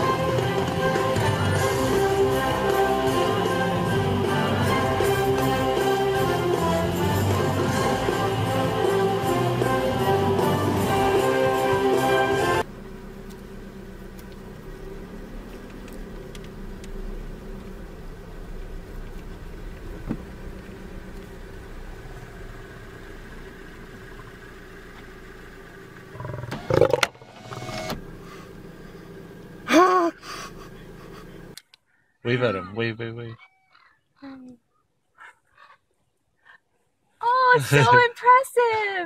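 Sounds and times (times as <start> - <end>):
car engine idling: 0.0 - 31.7.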